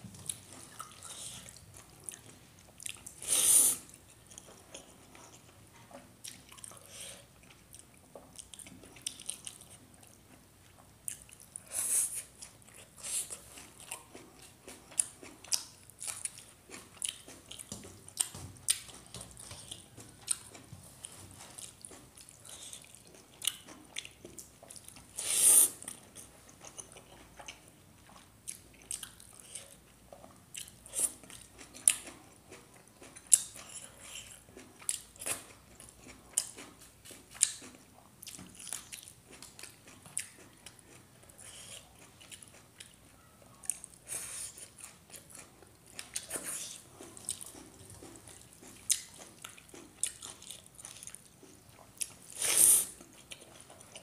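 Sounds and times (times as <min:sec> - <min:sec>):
chewing and lip smacks: 0:00.2 - 0:03.2, 0:03.8 - 0:54.0.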